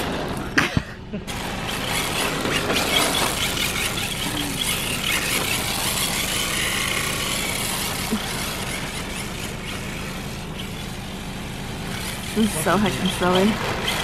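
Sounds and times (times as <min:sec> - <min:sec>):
low hum: 0:00.0 - 0:14.0
small electric motor whining: 0:01.3 - 0:14.0
tyres hissing on pavement: 0:01.3 - 0:14.0.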